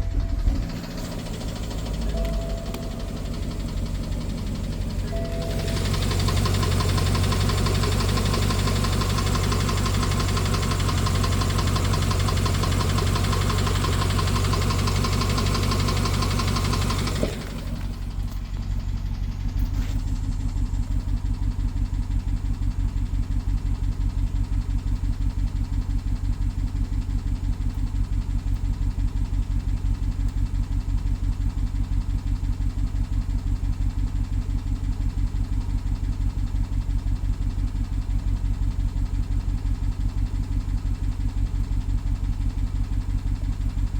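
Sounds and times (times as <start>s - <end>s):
engine idling with rapid ticking: 0.0s - 43.9s.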